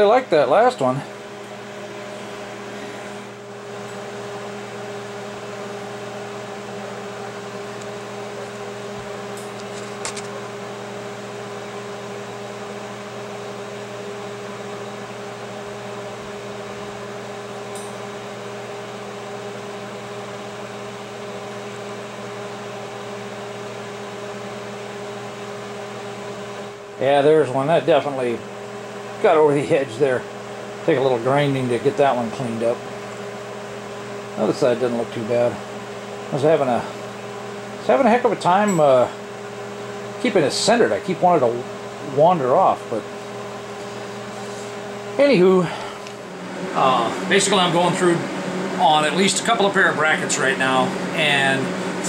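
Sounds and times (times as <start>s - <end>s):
fan hiss: 0.0s - 52.0s
machine hum: 0.0s - 52.0s.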